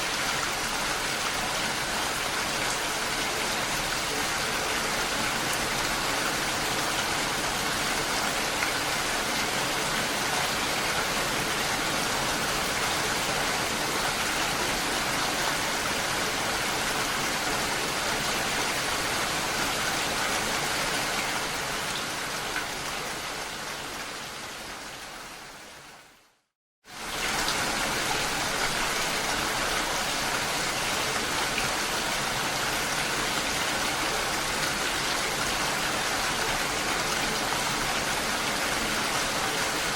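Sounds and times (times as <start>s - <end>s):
rain falling on a lake: 0.0s - 39.9s.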